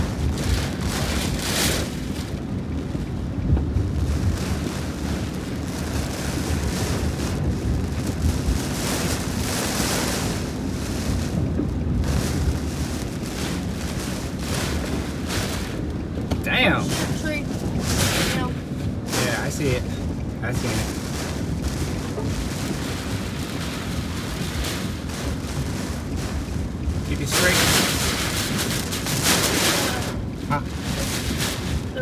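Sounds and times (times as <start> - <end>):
storm wind gusting: 0.0 - 32.0
wind buffeting microphone: 0.0 - 32.0.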